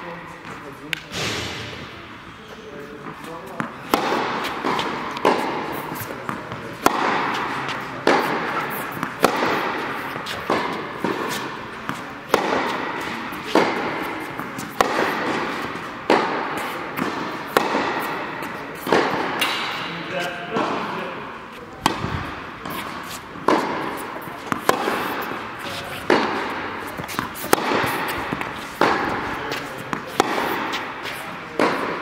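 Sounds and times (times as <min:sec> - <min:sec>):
ball bouncing on hard court: 0:03.6 - 0:19.9, 0:21.8 - 0:32.0
tennis ball struck by rackets: 0:03.6 - 0:19.9, 0:21.8 - 0:32.0.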